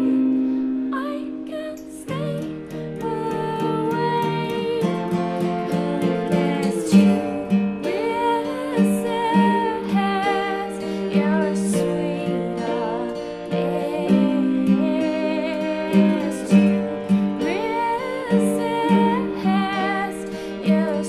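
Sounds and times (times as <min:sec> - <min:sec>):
guitar accompaniment: 0:00.0 - 0:21.0
person singing: 0:00.0 - 0:21.0.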